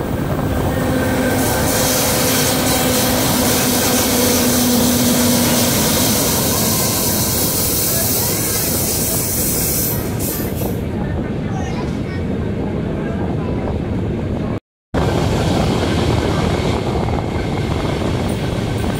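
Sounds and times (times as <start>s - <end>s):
train wheels rushing on rails: 0.0s - 12.8s, 15.0s - 18.9s.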